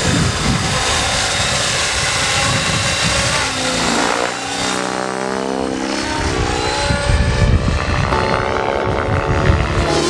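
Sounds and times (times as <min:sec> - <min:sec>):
model helicopter motor whine: 0:00.0 - 0:10.0
rush of rotor blades: 0:00.0 - 0:10.0.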